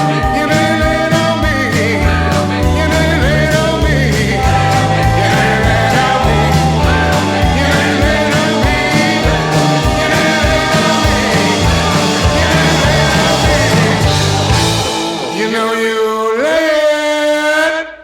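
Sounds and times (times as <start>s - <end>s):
rock band playing: 0.0s - 16.6s.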